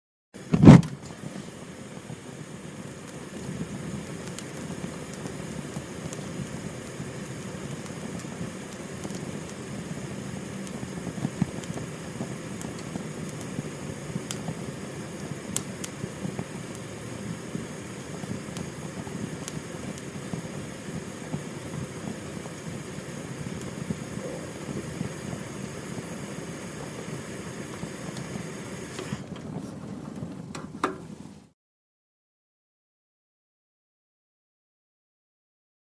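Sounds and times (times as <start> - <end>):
gas flame burning: 0.4 - 31.6.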